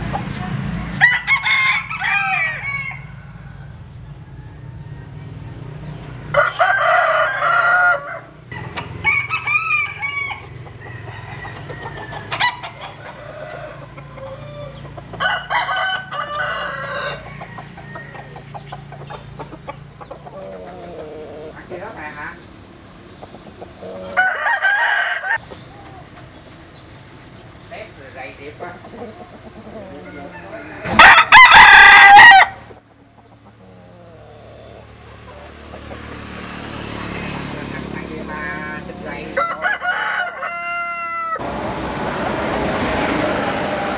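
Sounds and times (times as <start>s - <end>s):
roosters crowing: 0.8s - 22.4s, 23.3s - 27.2s, 28.6s - 43.9s.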